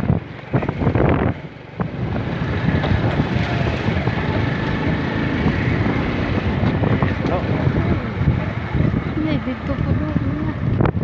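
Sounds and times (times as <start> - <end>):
vehicle engine rumble: 0.0 - 11.0
wind buffeting microphone: 0.0 - 11.0.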